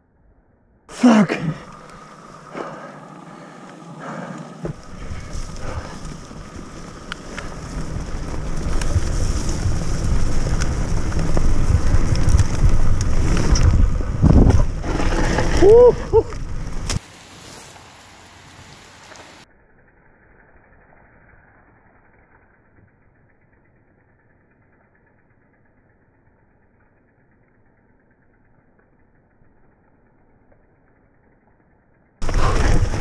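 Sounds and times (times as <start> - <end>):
bike tyre and frame rattle: 1.6 - 33.0.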